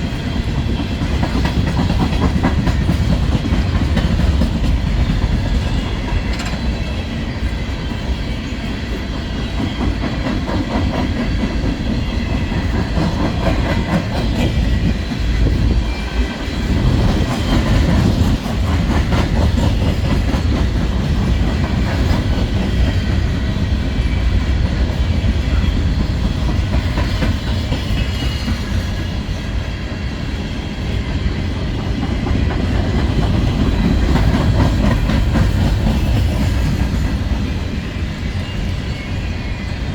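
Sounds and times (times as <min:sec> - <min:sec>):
freight train rumbling past: 0:00.0 - 0:39.9
train wheels clacking: 0:00.0 - 0:39.9.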